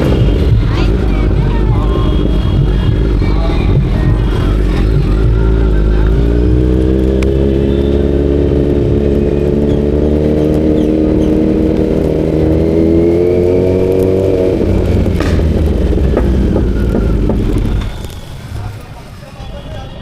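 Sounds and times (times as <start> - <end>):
motorcycle engine accelerating: 0.0 - 18.3.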